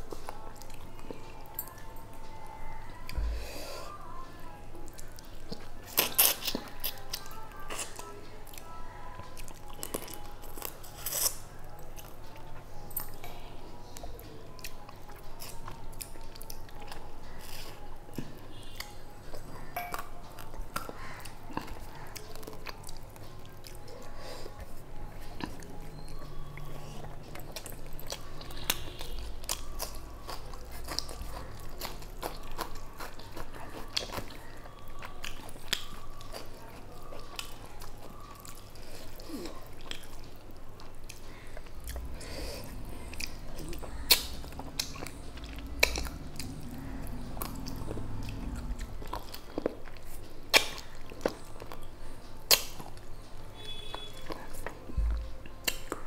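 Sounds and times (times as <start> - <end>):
close-up chewing: 0.0 - 3.3, 3.9 - 56.0.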